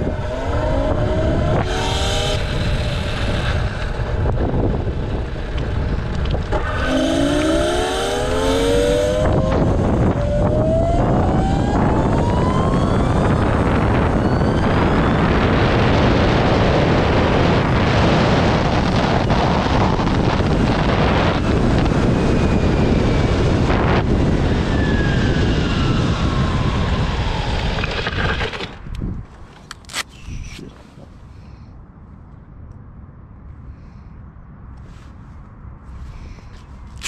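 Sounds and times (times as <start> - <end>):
wind noise on microphone: 0.0 - 37.0.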